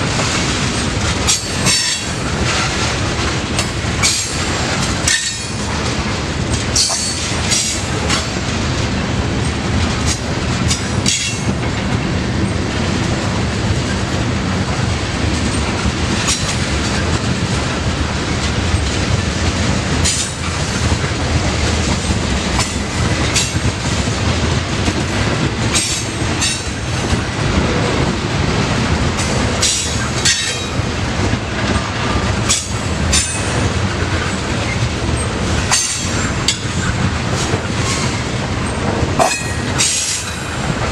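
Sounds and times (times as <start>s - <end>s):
freight train cars rolling: 0.0s - 40.9s
wheels clicking over rail joints: 0.1s - 12.6s, 14.6s - 40.9s.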